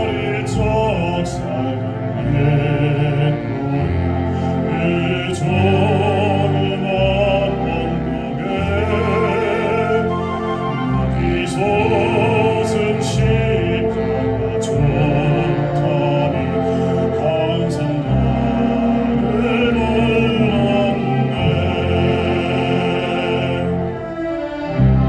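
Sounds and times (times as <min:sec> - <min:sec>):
orchestra playing slow piece: 0:00.0 - 0:25.0.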